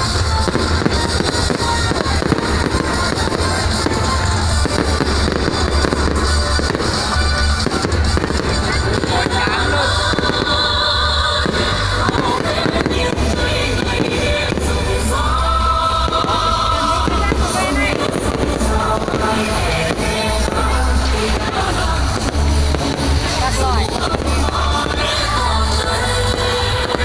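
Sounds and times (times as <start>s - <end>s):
fireworks bursting and crackling: 0.0s - 27.0s
loud music: 0.0s - 27.0s.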